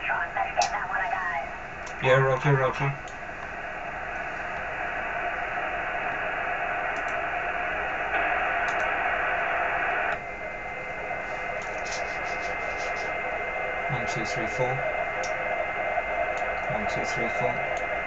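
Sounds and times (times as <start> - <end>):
radio receiver hiss: 1.8 - 18.0.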